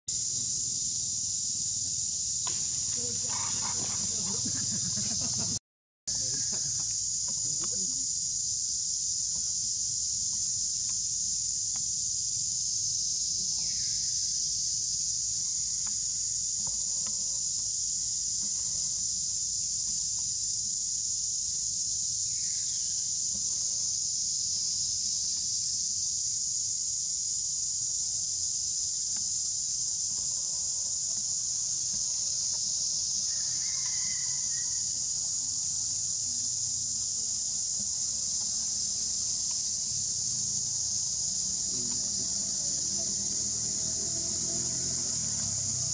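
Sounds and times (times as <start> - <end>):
high-pitched insect chorus: 0.1 - 45.9.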